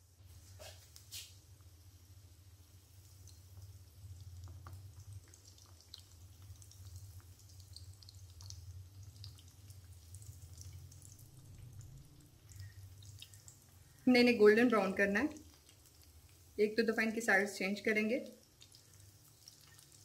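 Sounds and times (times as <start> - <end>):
food frying in hot oil: 0.0 - 20.0.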